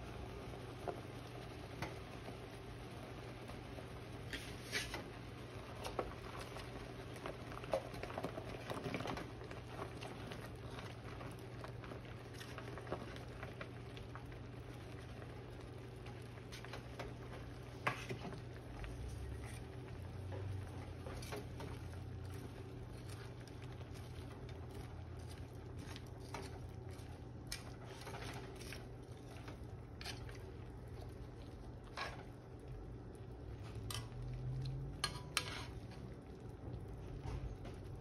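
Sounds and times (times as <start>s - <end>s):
sauce bubbling in a skillet: 0.0s - 38.0s
steady low hum: 0.0s - 38.0s.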